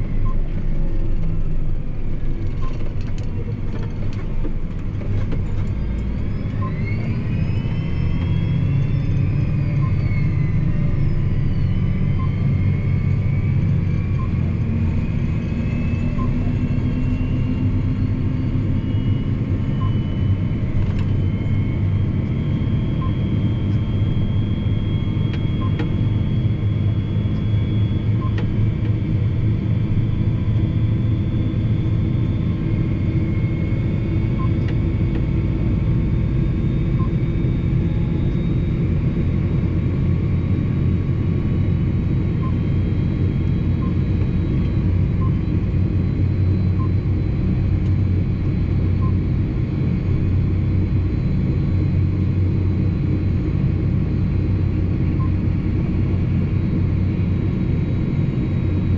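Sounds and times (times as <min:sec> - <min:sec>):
drivetrain whine rising in pitch: 0:00.0 - 0:58.9
tractor engine drone: 0:00.0 - 0:58.9.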